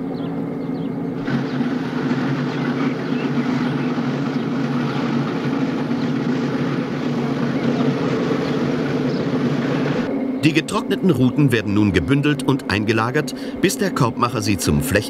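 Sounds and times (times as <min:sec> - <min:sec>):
low motor-like drone: 0:00.0 - 0:15.0.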